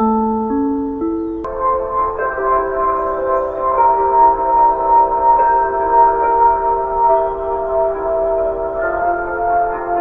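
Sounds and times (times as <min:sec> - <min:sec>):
bell-like chime melody over loudspeakers: 0:01.5 - 0:10.0.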